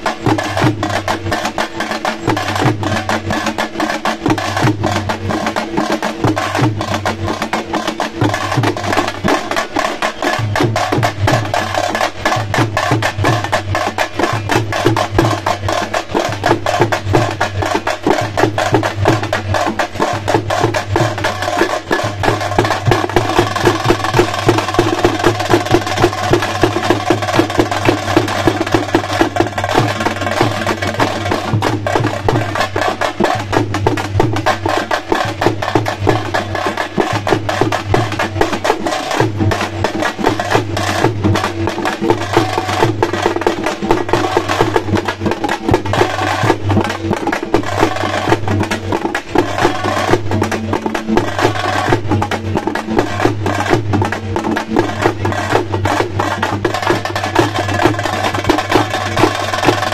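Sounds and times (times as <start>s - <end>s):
drums beaten with sticks: 0.0s - 59.9s.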